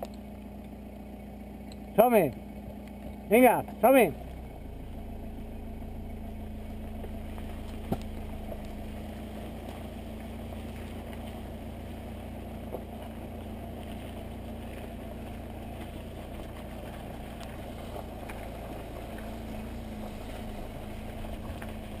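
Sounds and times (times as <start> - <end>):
vehicle engine running at low revs: 0.0 - 22.0.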